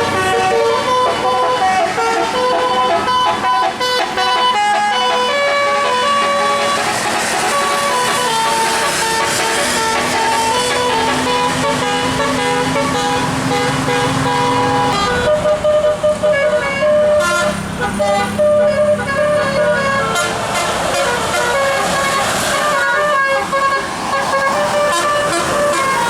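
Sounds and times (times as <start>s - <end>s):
bus engine running: 0.0s - 26.0s
bus horn melody: 0.0s - 26.0s.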